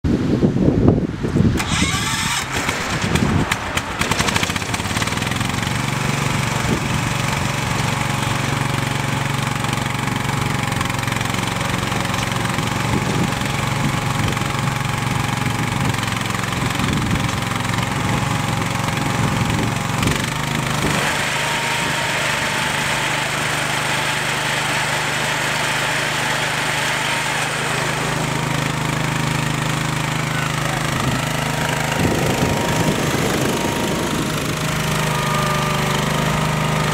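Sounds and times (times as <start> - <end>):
garden tractor engine running: 1.3 - 36.9.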